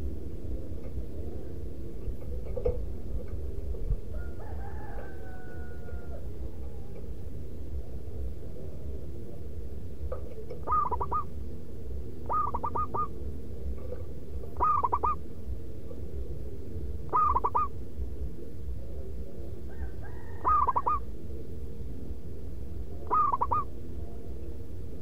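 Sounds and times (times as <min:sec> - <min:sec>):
dove cooing: 0:00.0 - 0:22.1, 0:22.9 - 0:25.0
steady low hum: 0:00.0 - 0:25.0.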